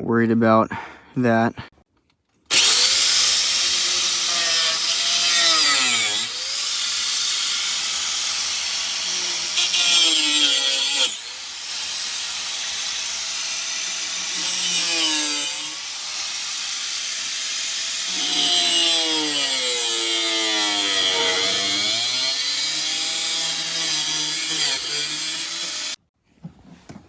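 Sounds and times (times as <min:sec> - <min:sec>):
angle grinder cutting metal: 0:02.5 - 0:26.0.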